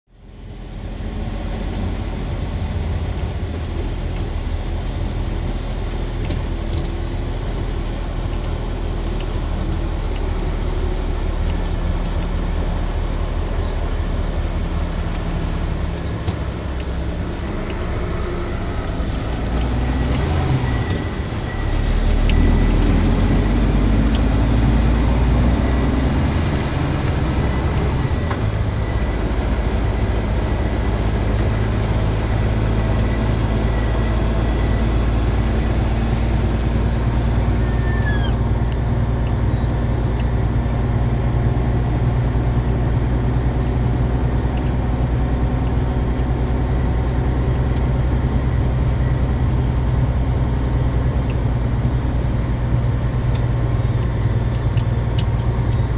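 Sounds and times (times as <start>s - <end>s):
heavy diesel engine rumbling: 0.1s - 55.9s.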